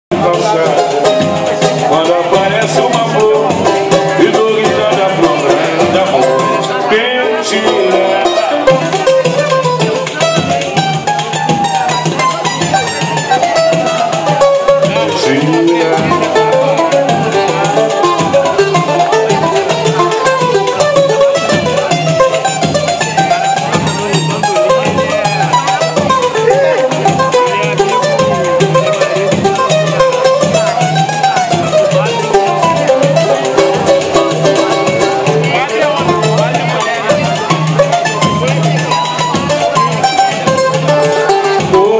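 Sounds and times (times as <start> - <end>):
person singing: 0.1 - 9.6, 13.2 - 22.4, 23.2 - 30.7, 31.5 - 41.9
acoustic guitar strummed: 0.1 - 41.9
hand drum beat: 0.1 - 41.9.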